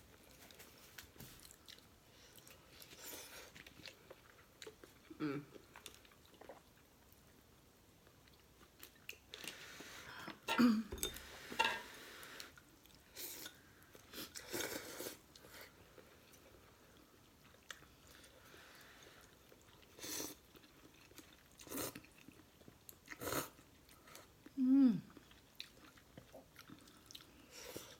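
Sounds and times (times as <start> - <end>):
person chewing noodles: 0.2 - 10.0, 11.3 - 27.9.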